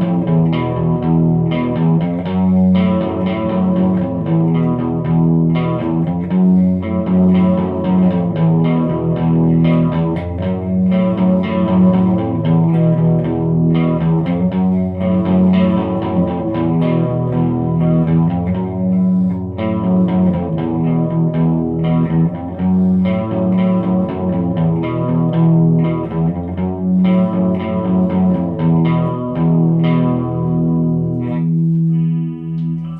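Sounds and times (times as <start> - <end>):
electric guitar picked notes and chords: 0.0 - 32.9.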